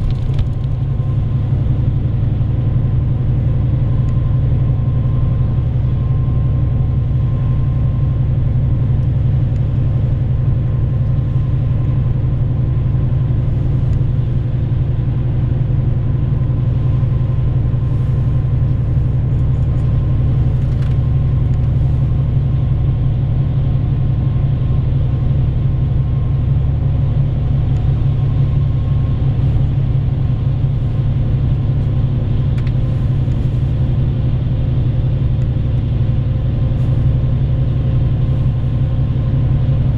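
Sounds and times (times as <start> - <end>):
bus engine and tyres rumbling: 0.0 - 39.9.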